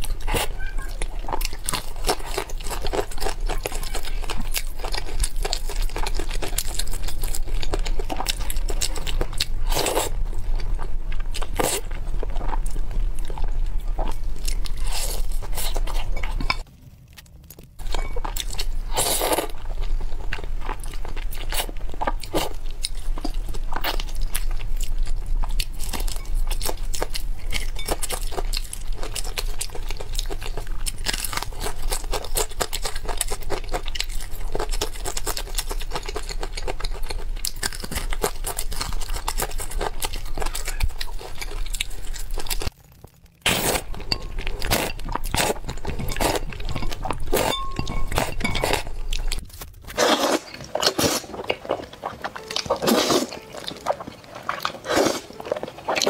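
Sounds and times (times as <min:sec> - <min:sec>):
chewing: 0:00.0 - 0:56.0
crunching fried chicken: 0:00.0 - 0:56.0.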